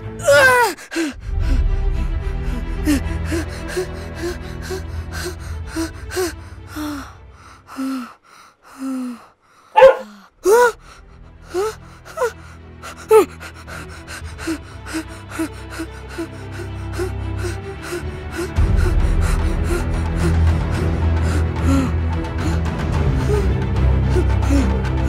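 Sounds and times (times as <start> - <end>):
tense music with ticking beat: 0.0 - 8.4, 10.5 - 25.0
child gasping and crying: 0.2 - 1.6, 2.4 - 23.5, 24.1 - 24.8.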